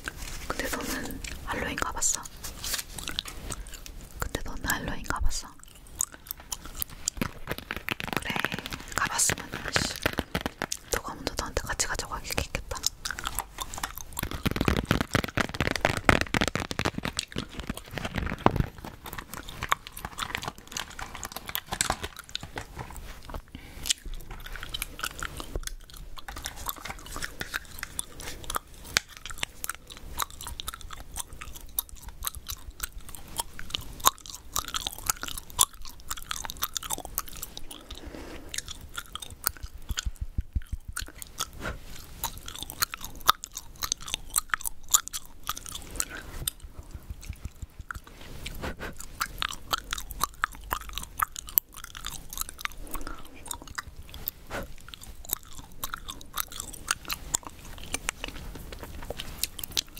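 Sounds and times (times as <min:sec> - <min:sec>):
gum chewing mouth clicks: 0:00.0 - 0:59.9.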